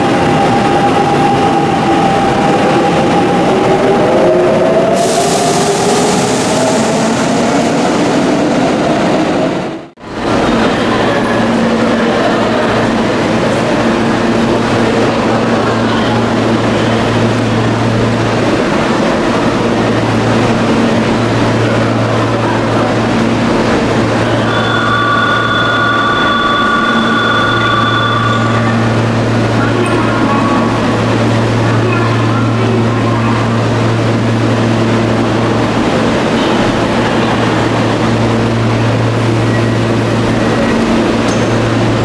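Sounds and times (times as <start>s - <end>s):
electric train rumble: 0.0s - 42.0s.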